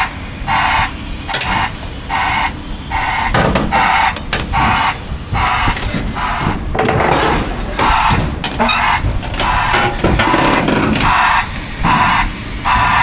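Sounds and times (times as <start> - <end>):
backup alarm beeping: 0.0 - 6.8, 7.7 - 13.0
diesel engine rumble: 0.0 - 13.0.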